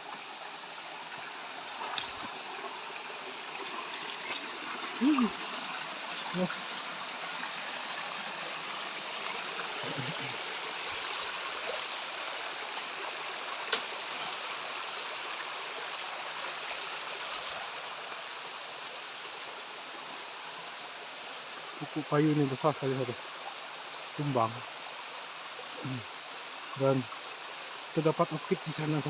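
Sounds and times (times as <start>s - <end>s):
stream water flowing: 0.0s - 29.0s.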